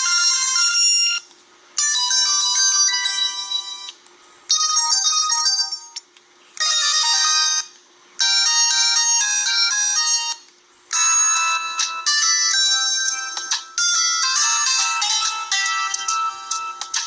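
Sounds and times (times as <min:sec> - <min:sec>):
mobile phone ringtone melody: 0:00.0 - 0:01.2, 0:01.8 - 0:06.0, 0:06.6 - 0:17.0.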